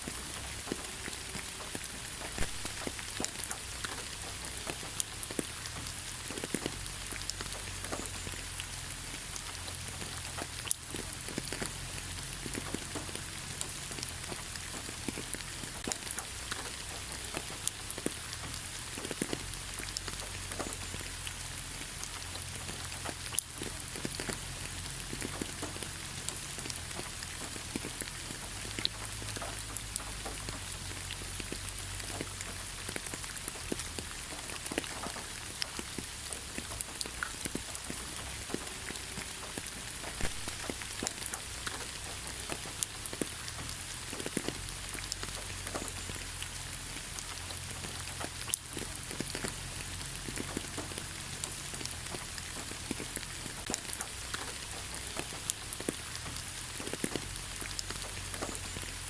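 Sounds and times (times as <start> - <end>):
raindrops pattering: 0.0 - 59.0
steady rain hiss: 0.0 - 59.0.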